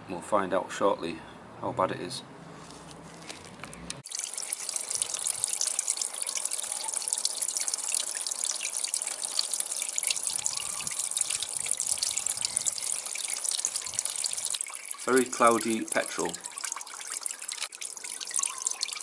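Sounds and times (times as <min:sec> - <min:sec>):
petrol trickling: 0:02.7 - 0:19.0.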